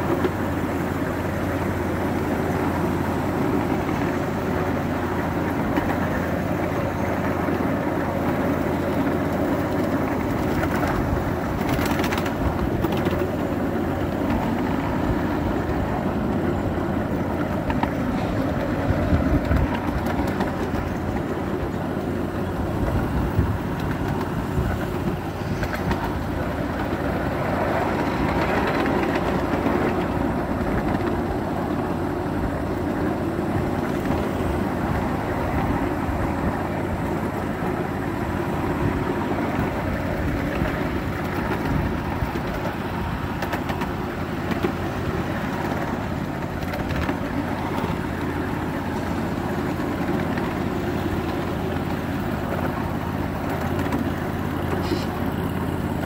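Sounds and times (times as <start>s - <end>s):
model train wheels on track: 0.0s - 56.0s.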